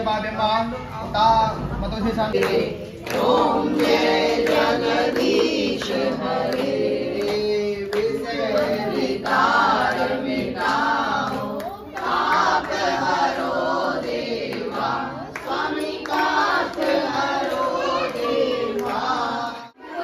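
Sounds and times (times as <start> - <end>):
group singing a hymn in unison: 2.4 - 20.0.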